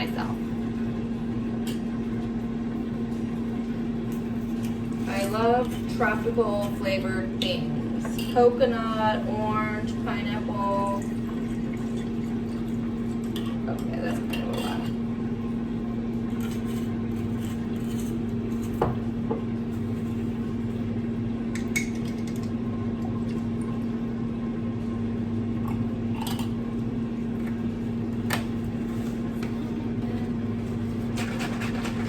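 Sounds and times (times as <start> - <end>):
air fryer fan humming: 0.0 - 32.0.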